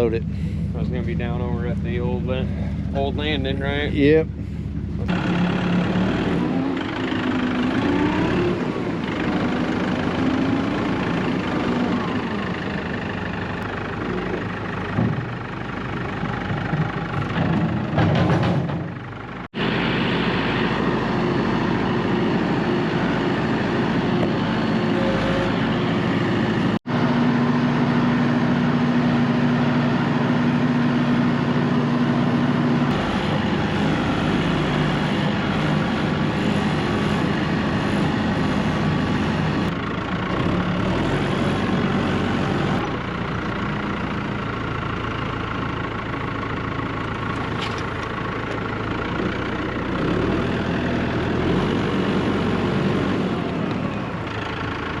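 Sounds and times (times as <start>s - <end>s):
heavy vehicle engine droning: 0.0s - 55.0s.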